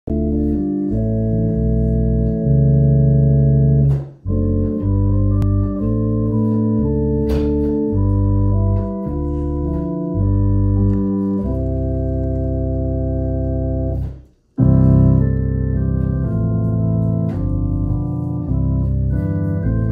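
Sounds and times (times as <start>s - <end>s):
organ playing hymn chords: 0.1s - 19.9s.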